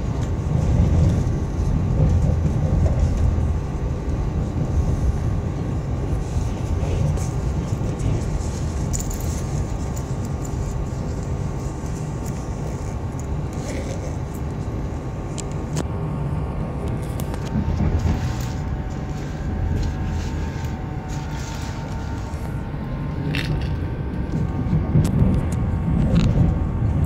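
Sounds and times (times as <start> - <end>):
passenger train rumbling: 0.0 - 27.0.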